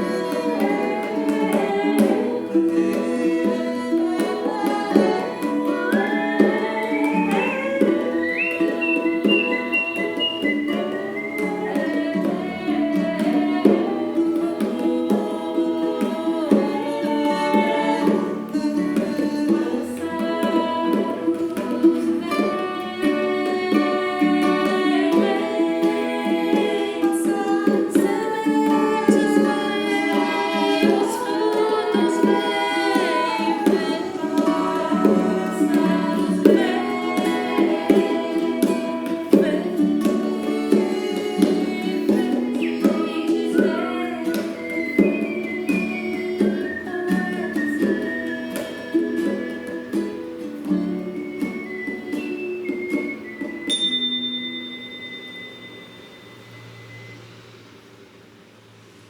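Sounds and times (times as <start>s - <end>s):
women singing in harmony: 0.0s - 53.8s
hand drum beating: 0.0s - 56.0s.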